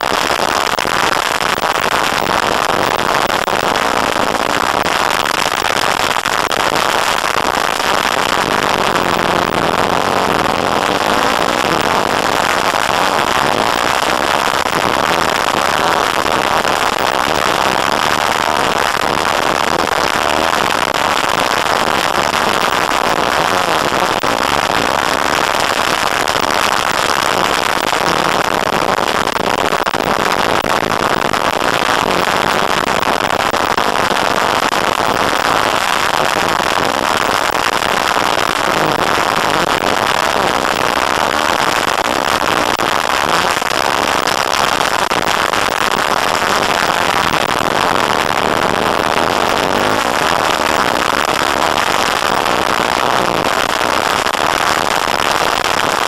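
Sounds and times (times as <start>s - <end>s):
loud even noise: 0.0s - 56.0s.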